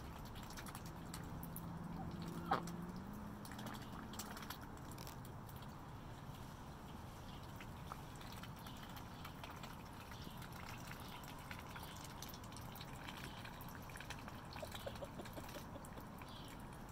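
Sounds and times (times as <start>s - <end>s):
ducks dabbling in wet mud: 0.0s - 16.9s.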